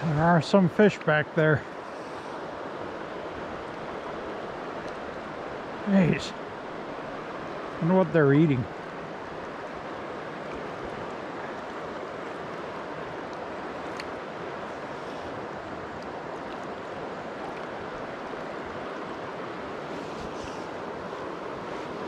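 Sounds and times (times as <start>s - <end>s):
stream rushing: 0.0s - 22.0s.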